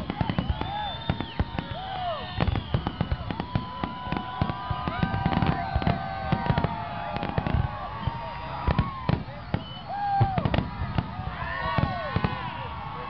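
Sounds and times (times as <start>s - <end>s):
fireworks bangs and crackles: 0.0s - 13.0s
whistling fireworks shrieking: 0.0s - 13.0s.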